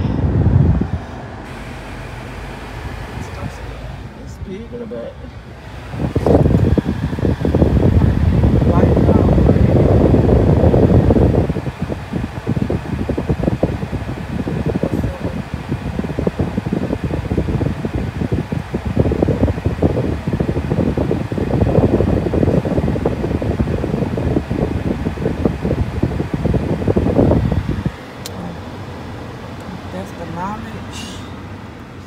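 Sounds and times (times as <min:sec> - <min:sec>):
air conditioning blowing: 0:00.0 - 0:32.0
wind buffeting microphone: 0:00.0 - 0:32.0.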